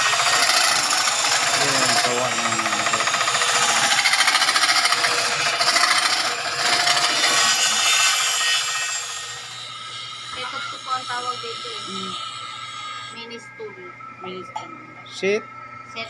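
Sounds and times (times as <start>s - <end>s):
lathe tool scraping spinning wood: 0.0s - 13.0s.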